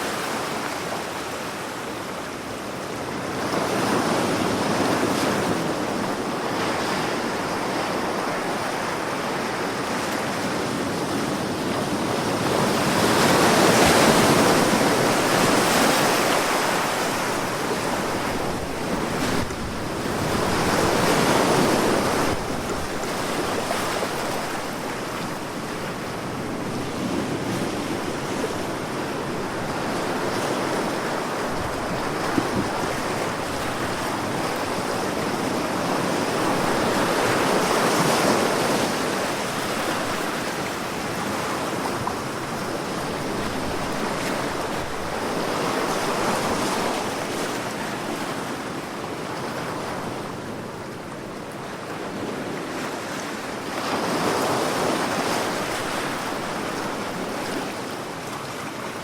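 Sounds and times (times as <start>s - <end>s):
sea waves washing on shore: 0.0s - 59.0s
wind: 0.0s - 59.0s.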